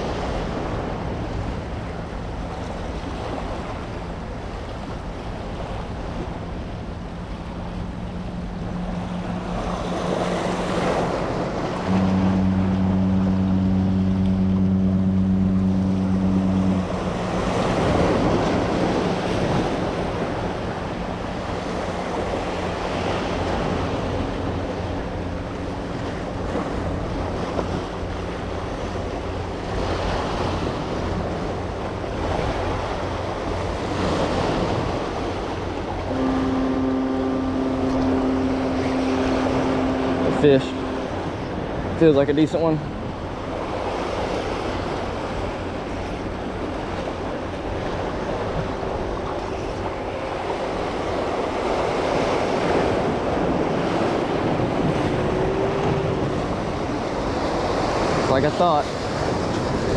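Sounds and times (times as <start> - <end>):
low steady tone: 0.0 - 59.5
surf washing over rocks: 0.0 - 59.9.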